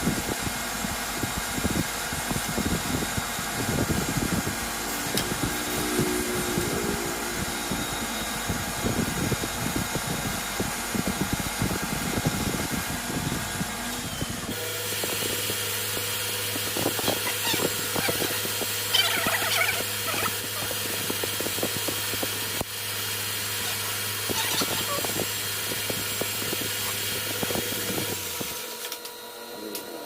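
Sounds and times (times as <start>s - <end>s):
metal lathe humming: 0.0s - 30.0s.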